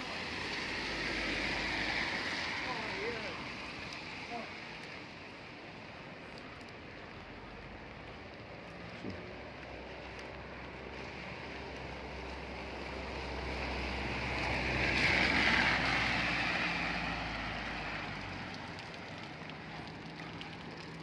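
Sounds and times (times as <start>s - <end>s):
car tyres hissing on wet road: 0.0s - 21.0s.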